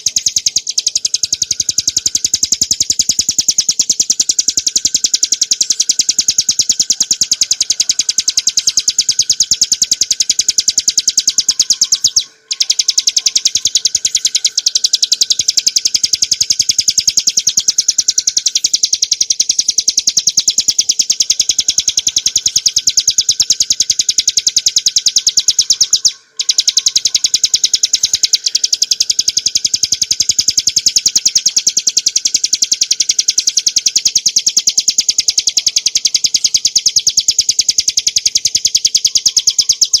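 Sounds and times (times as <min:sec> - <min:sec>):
bird singing fast trill: 0:00.0 - 0:40.0.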